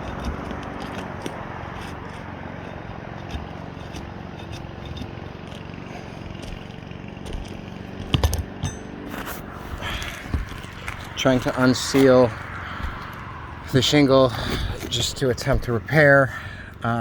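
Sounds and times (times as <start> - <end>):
shingles crackling and scraping: 0.0 - 17.0.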